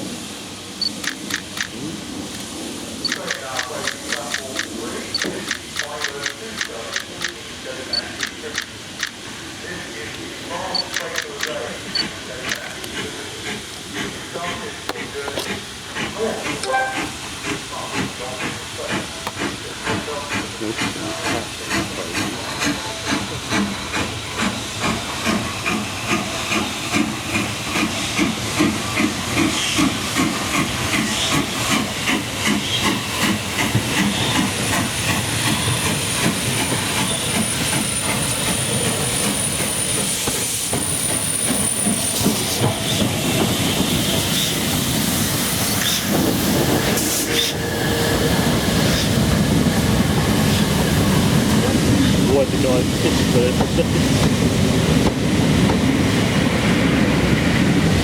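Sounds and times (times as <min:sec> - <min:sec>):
steam locomotive exhaust beats: 0:00.0 - 0:09.4, 0:10.8 - 0:58.0
steam hissing: 0:00.0 - 0:58.0.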